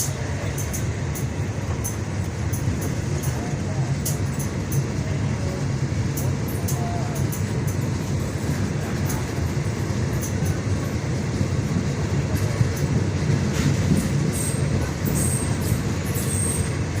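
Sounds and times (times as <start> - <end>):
train rumbling on rails: 0.0 - 17.0
wheels clicking on track: 0.0 - 17.0.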